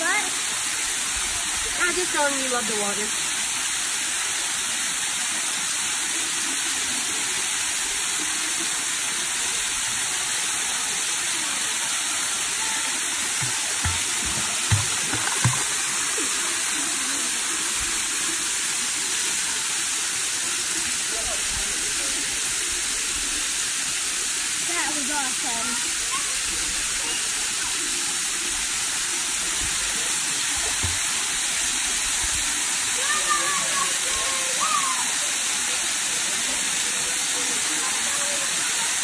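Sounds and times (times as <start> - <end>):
waterfall pouring into pool: 0.0 - 39.0.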